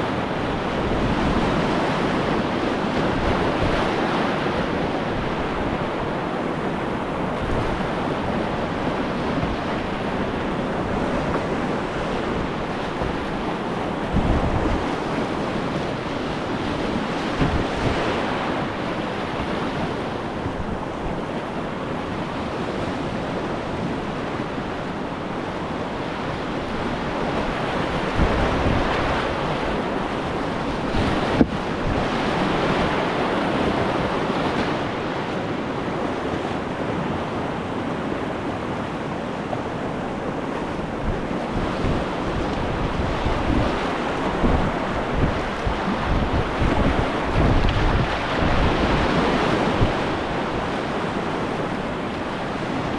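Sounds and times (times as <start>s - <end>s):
whitewater rushing: 0.0s - 52.9s.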